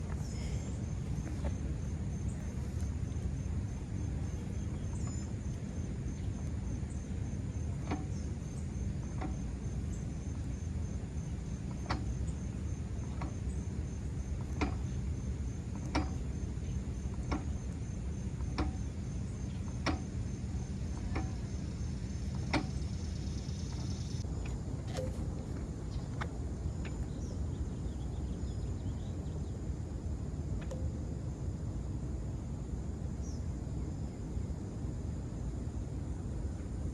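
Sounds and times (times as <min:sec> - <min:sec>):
pulsing insect trill: 0:00.0 - 0:36.9.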